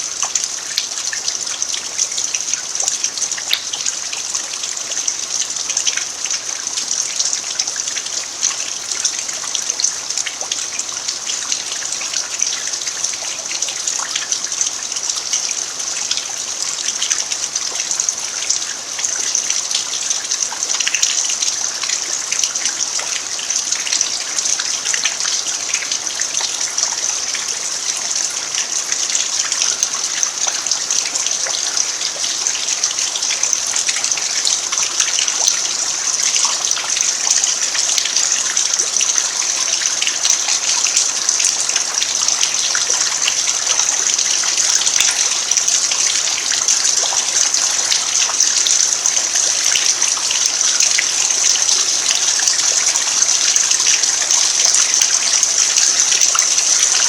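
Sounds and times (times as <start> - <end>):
rain falling on dirt: 0.0 - 57.0.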